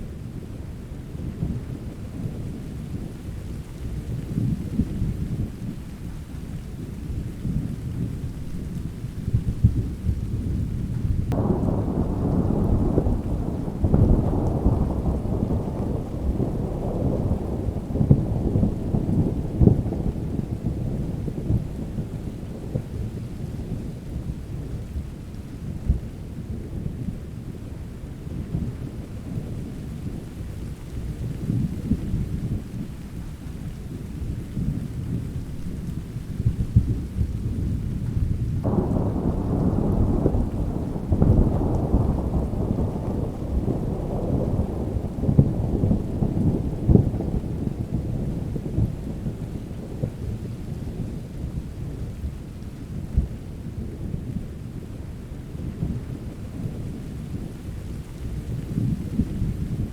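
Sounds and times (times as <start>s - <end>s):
rolling thunder: 0.0s - 59.9s
steady rain: 0.0s - 59.9s.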